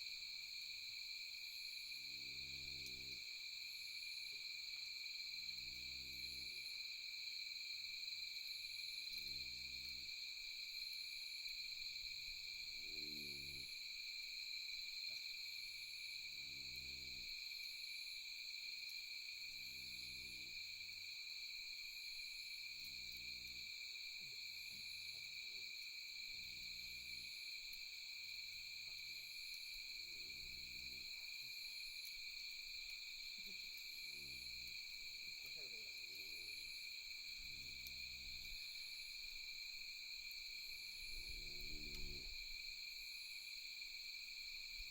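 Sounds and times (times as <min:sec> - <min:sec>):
night insects trilling: 0:00.0 - 0:44.9.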